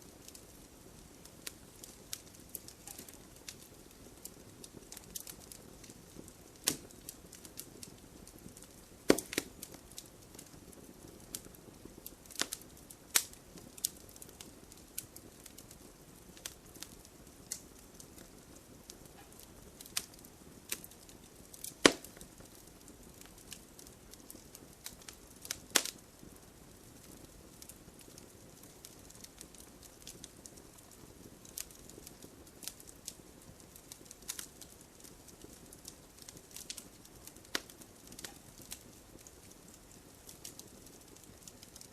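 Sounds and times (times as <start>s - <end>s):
fire hissing: 0.0s - 41.9s
fire popping and snapping: 0.0s - 41.9s.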